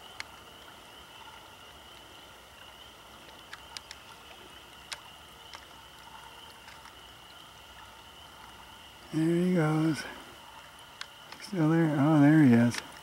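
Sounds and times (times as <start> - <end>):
water trickling over a dam: 0.0 - 13.0.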